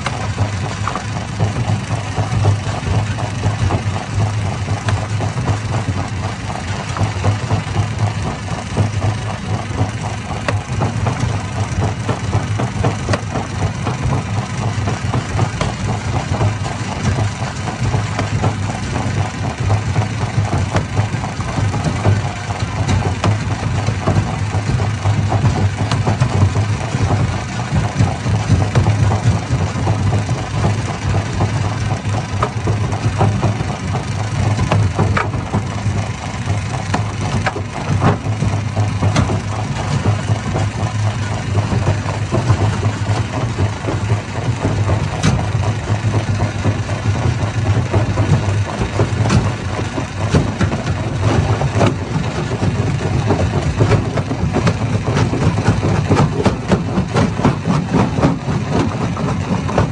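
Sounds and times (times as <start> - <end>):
stone crusher running: 0.0 - 59.9.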